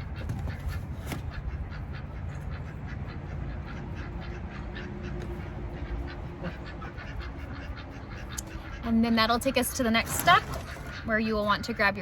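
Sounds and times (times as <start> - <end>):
steady low rumble: 0.0 - 10.0
ducks quacking: 0.0 - 12.0.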